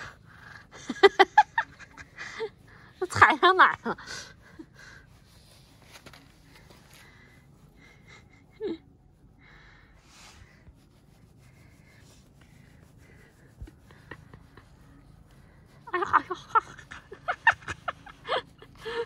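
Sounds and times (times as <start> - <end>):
hand rustling cat fur: 0.2 - 9.4, 10.0 - 19.0.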